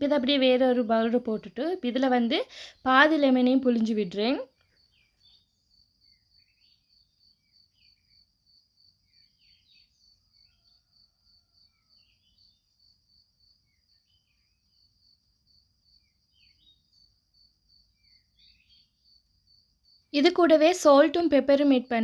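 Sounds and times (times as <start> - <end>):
cricket chirping: 0.1 - 22.0.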